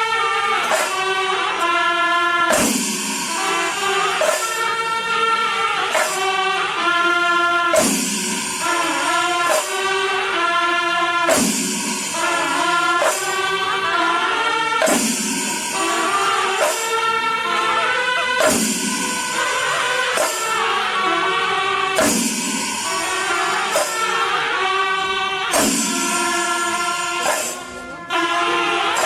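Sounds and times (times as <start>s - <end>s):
percussion hit: 0.4s - 1.8s, 2.4s - 6.9s, 7.7s - 14.0s, 14.8s - 29.0s.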